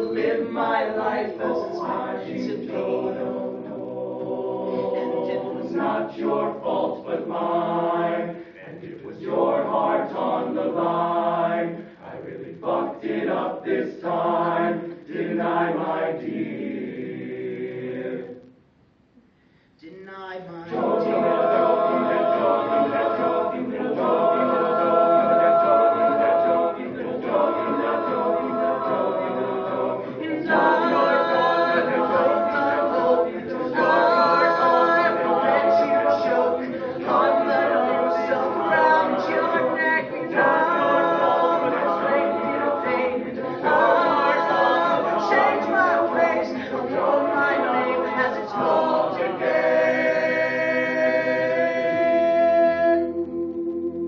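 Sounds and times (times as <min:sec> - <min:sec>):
a cappella group singing harmony: 0:00.0 - 0:18.5, 0:20.6 - 0:54.0.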